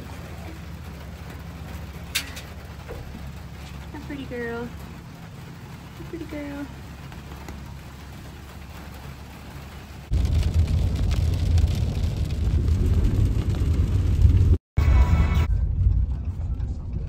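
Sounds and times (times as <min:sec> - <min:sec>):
rain hissing: 0:00.0 - 0:14.6
engine and tyres rumbling: 0:00.0 - 0:17.0.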